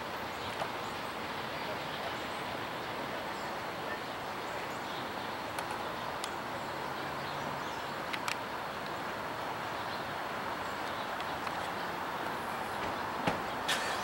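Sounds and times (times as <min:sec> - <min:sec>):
outdoor background rush: 0:00.0 - 0:14.0.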